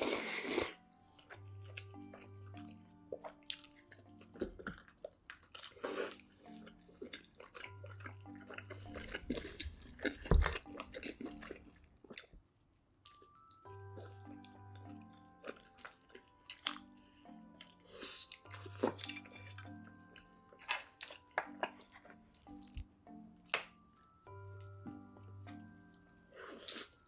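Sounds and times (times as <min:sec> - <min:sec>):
chewing and crunching food: 0:00.0 - 0:12.4, 0:13.0 - 0:22.9
soft background music: 0:00.0 - 0:27.0.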